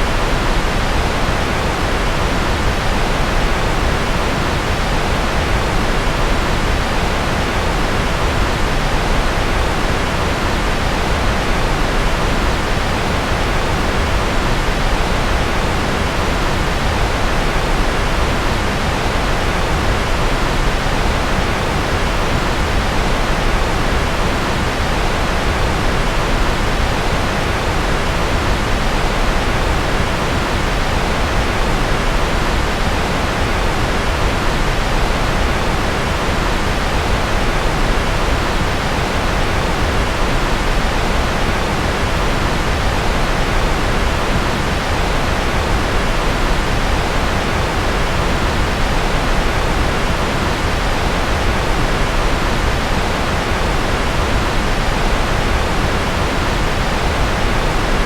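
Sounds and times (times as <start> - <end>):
loud continuous white noise: 0.0 - 58.0.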